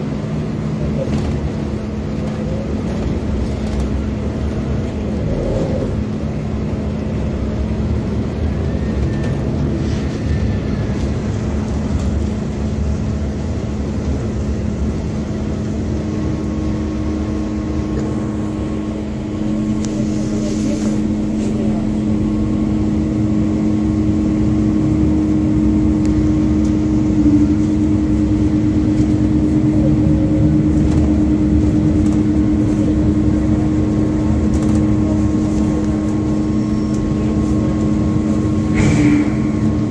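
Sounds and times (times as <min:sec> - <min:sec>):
bus engine and road rumble: 0:00.0 - 0:39.9
steady whine: 0:00.0 - 0:39.9.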